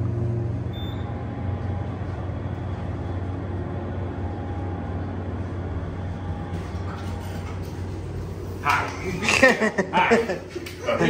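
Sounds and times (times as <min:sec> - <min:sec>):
elevator pump motor hum: 0:00.0 - 0:11.0.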